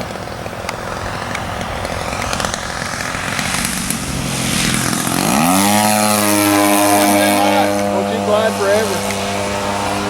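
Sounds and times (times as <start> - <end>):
model airplane engine running: 0.0 - 10.0.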